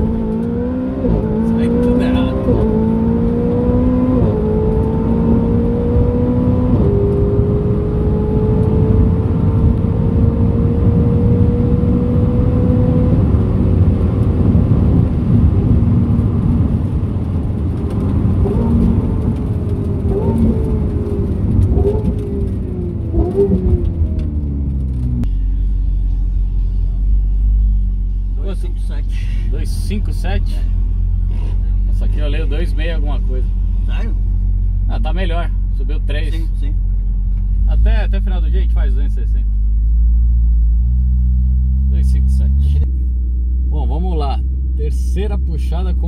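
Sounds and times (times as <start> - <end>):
car engine at full throttle: 0.0 - 46.0.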